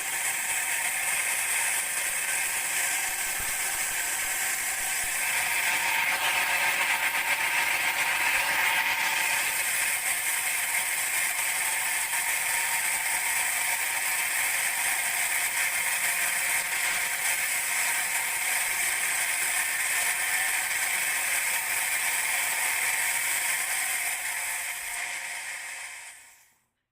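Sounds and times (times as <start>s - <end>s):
band saw cutting log: 0.0s - 26.2s.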